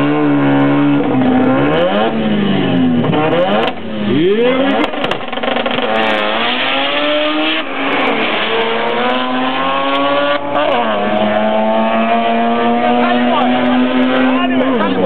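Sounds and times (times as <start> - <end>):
drag racing cars accelerating: 0.0 - 15.0.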